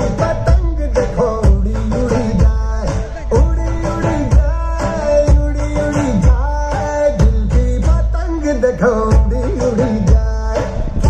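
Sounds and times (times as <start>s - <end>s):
dance song over loudspeakers: 0.0s - 11.0s.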